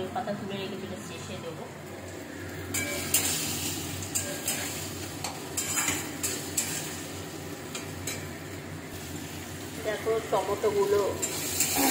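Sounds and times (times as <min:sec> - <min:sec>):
food sizzling in oil: 0:02.0 - 0:11.9.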